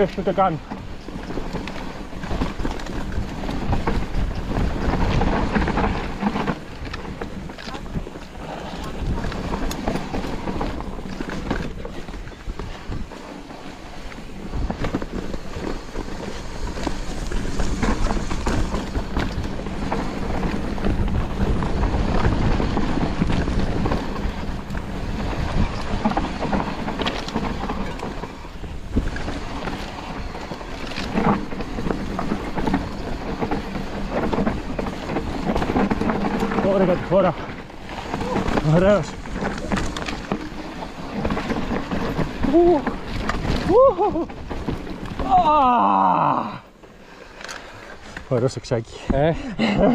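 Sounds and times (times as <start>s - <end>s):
wind noise on microphone: 0.0s - 46.7s
bike rattling over bumps: 0.0s - 49.9s
tyres rolling on dirt: 0.0s - 49.9s.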